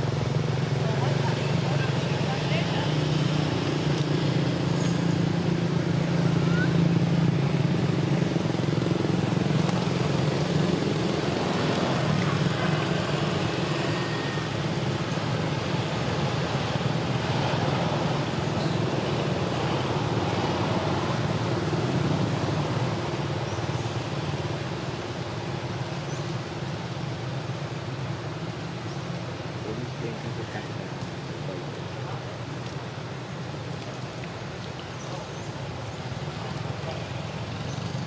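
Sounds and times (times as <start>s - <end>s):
outdoor traffic noise: 0.0s - 38.0s.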